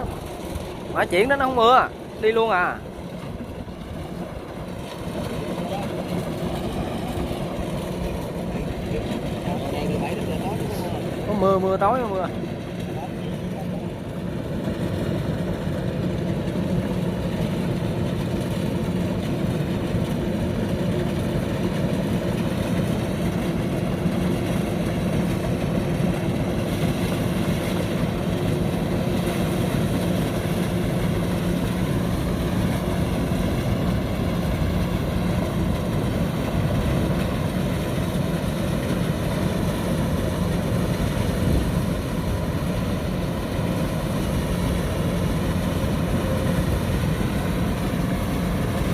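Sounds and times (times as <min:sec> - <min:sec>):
combine harvester running: 0:00.0 - 0:48.9.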